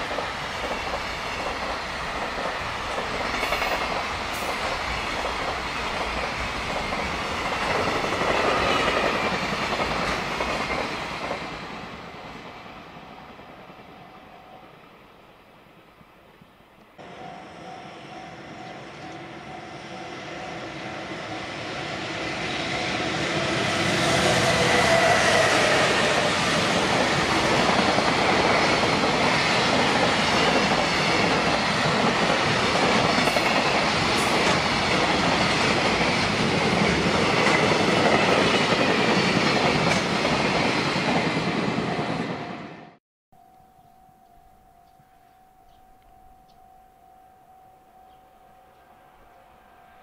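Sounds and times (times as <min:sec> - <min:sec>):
freight train passing: 0:00.0 - 0:43.0, 0:47.5 - 0:50.0.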